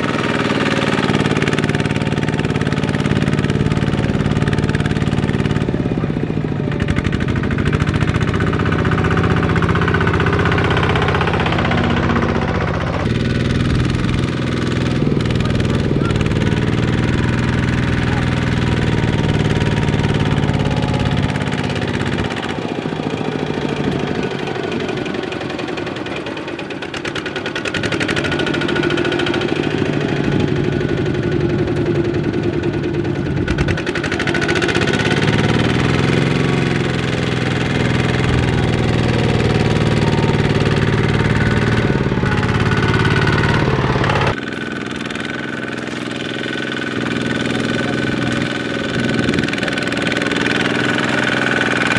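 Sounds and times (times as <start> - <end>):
diesel tractor engine knocking: 0.0 - 51.9.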